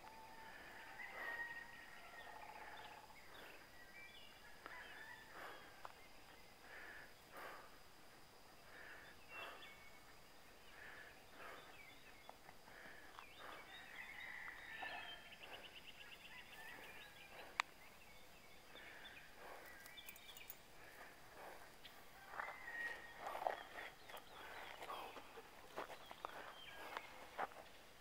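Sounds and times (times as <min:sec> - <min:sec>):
bird calls: 0:00.0 - 0:07.8, 0:08.5 - 0:27.8.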